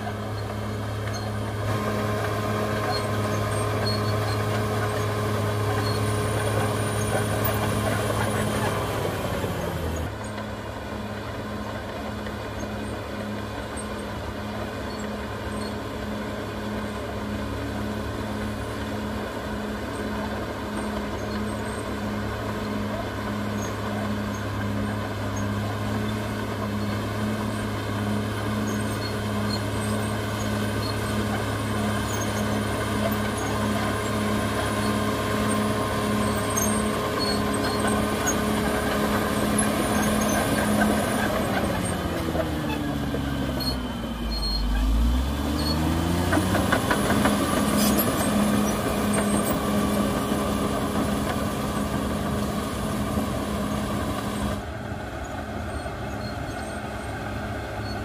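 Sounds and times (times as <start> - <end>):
bulldozer diesel engine droning: 0.0 - 58.0.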